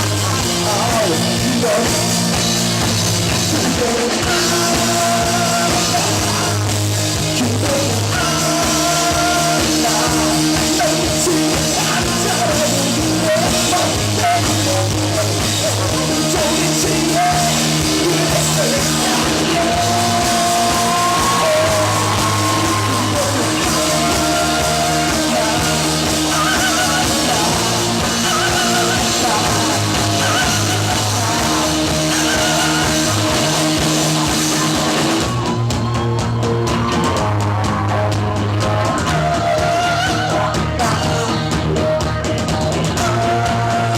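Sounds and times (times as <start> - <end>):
male lead vocal singing: 0.0 - 35.4, 36.9 - 43.9
rock band playing: 0.0 - 43.9.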